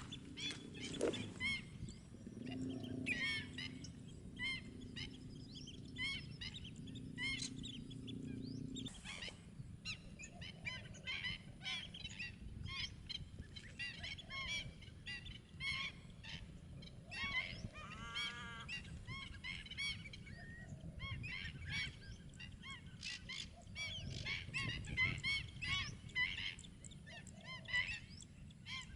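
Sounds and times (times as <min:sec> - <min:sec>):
flock of birds calling: 0:00.0 - 0:28.9
low steady hum: 0:00.0 - 0:28.9.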